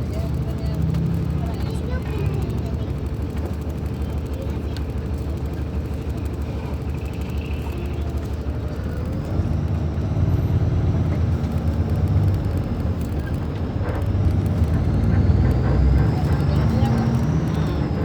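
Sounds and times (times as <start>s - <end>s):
diesel bus engine drone: 0.0s - 18.0s.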